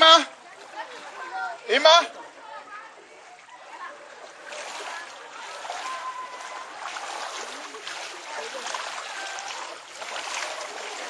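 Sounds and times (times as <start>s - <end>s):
floodwater splashing and rushing: 0.0s - 11.0s.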